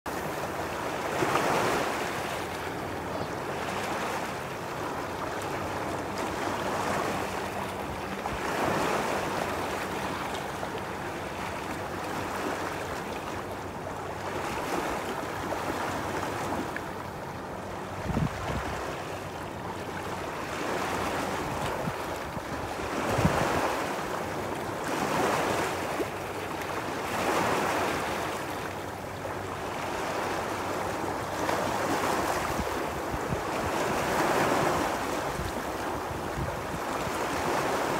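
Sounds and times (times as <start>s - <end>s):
wind: 0.0s - 37.9s.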